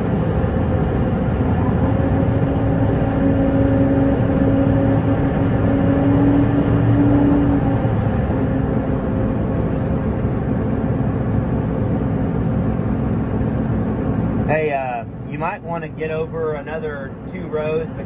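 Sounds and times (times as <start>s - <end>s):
steady hum: 0.0s - 18.0s
tractor engine drone: 0.0s - 18.0s.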